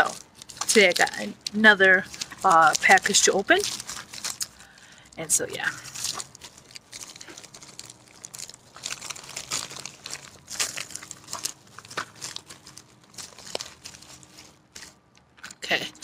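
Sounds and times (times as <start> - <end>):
package wrapping crinkling: 0.0 - 15.6.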